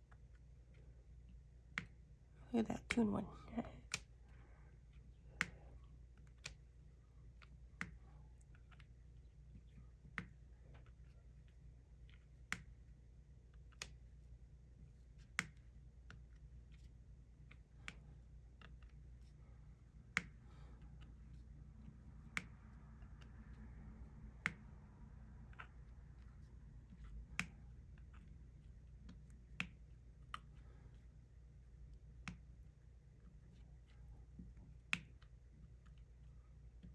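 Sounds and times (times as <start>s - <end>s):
low steady hum: 0.0s - 36.9s.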